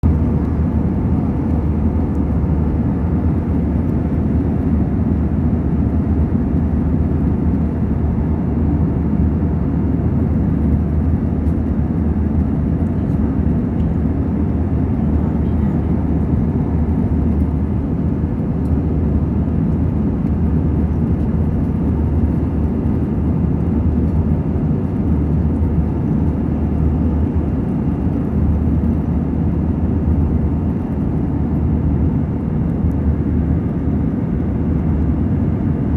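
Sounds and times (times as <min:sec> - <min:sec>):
airliner cabin roar: 0:00.0 - 0:35.9.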